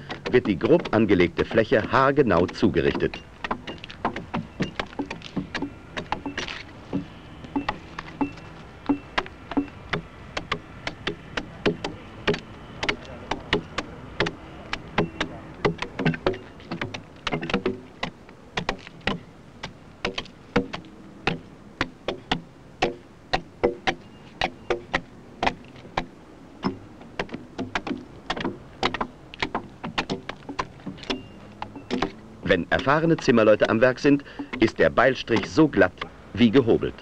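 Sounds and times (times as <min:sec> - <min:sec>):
axe chopping log: 0:00.0 - 0:36.9.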